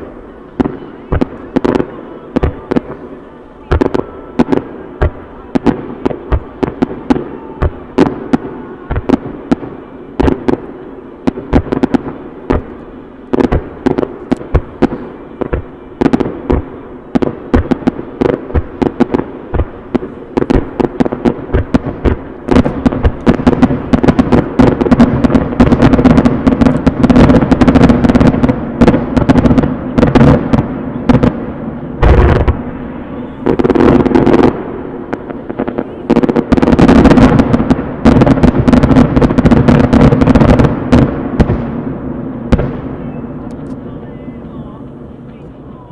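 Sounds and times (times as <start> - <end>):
aerial fireworks bursting: 0.0 - 45.9.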